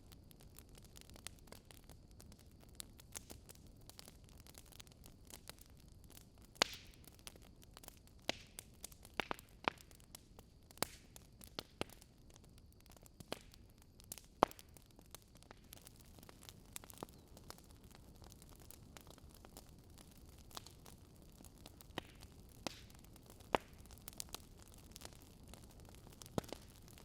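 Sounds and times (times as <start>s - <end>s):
burning logs crackling: 0.0s - 27.0s
low steady hiss: 0.0s - 27.0s.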